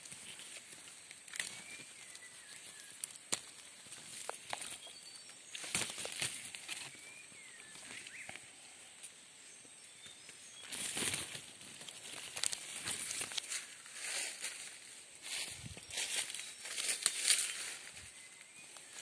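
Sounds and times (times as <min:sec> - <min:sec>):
dry leaves crunching underfoot: 0:00.0 - 0:08.2, 0:10.6 - 0:19.0
leaves and branches rustling: 0:00.0 - 0:19.0.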